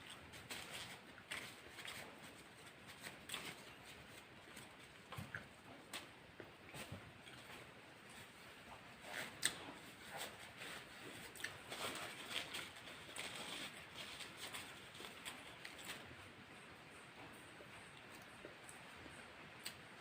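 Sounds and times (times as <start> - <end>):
rustling: 0.0 - 16.6.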